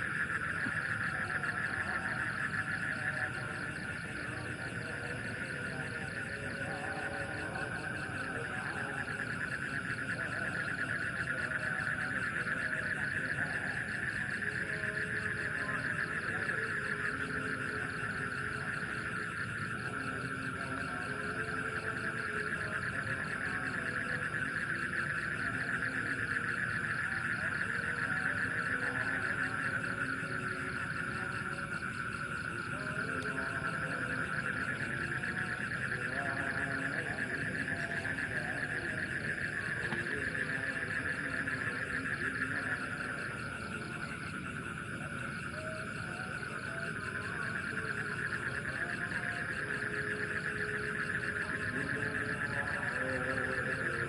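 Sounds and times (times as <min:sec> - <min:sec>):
frogs calling: 0:00.0 - 0:54.0
insects trilling: 0:00.0 - 0:54.0.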